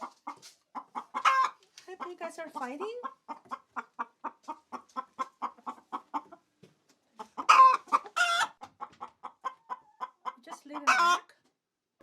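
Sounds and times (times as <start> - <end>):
hen clucking: 0.0 - 11.4.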